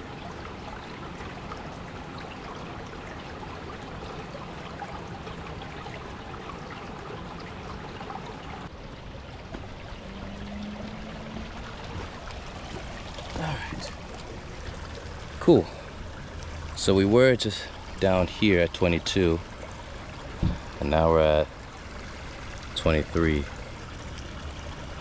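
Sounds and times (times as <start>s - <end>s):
water rushing and trickling: 0.0s - 25.0s.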